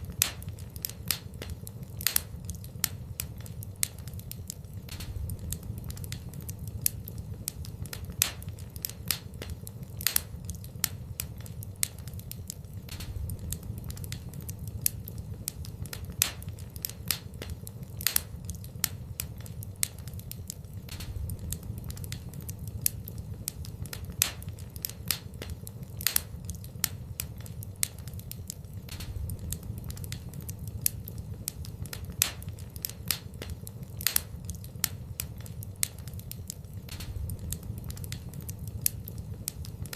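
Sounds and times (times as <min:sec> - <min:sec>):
low steady rumble: 0:00.0 - 0:39.9
wood fire crackling and popping: 0:00.0 - 0:39.9.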